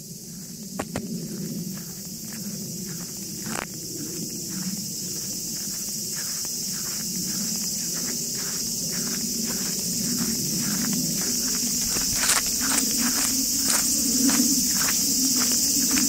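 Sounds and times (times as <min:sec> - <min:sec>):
cicadas droning: 0:00.0 - 0:16.0
footsteps through grass: 0:00.1 - 0:16.0.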